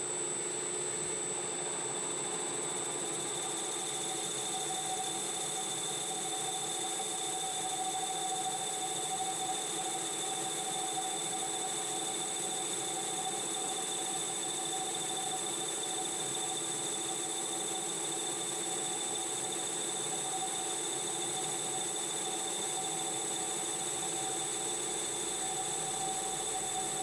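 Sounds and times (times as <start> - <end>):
metal lathe whine: 0.3 - 27.0.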